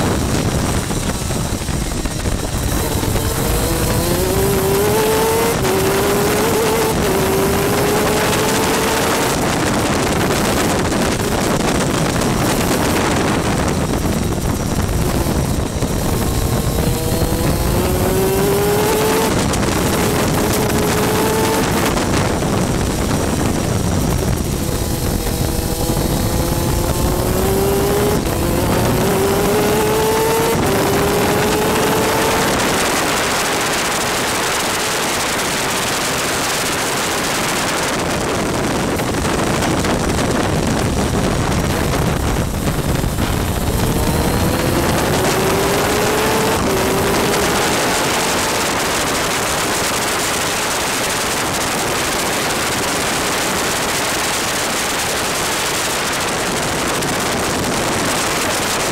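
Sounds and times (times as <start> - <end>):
two-stroke engine accelerating: 0.0 - 58.9
wind and rain on microphone: 0.0 - 58.9.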